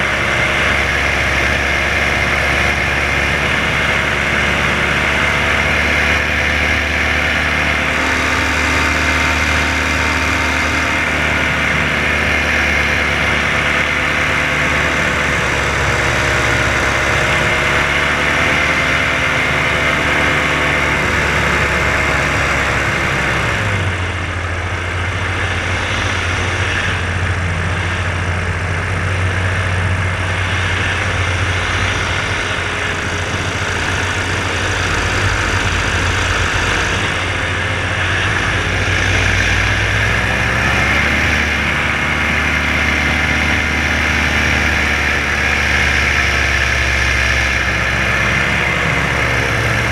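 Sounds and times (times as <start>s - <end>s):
paramotor engine and propeller: 0.0s - 49.9s.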